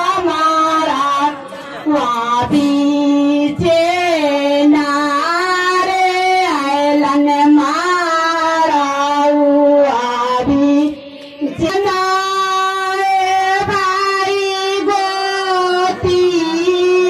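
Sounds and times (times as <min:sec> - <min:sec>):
music with singing voice: 0:00.0 - 0:17.0.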